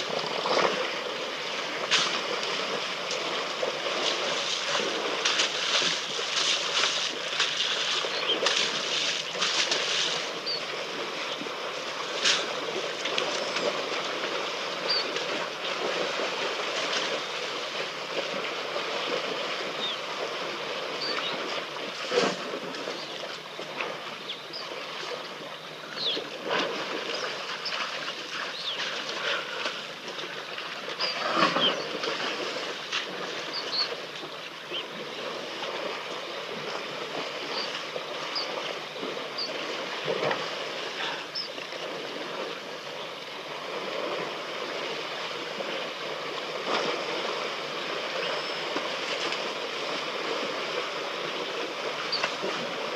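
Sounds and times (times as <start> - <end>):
steady outdoor hiss: 0.0 - 52.9
water sloshing and splashing: 0.0 - 52.9.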